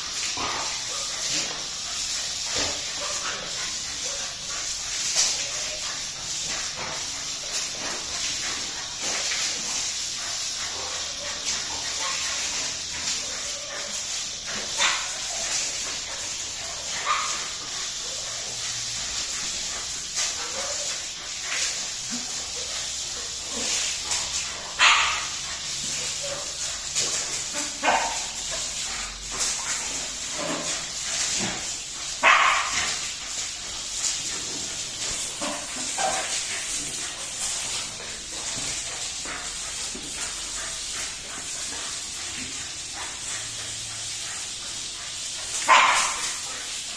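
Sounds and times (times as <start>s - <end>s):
dogs barking: 0.0s - 46.9s
water spraying from garden hose: 0.0s - 46.9s.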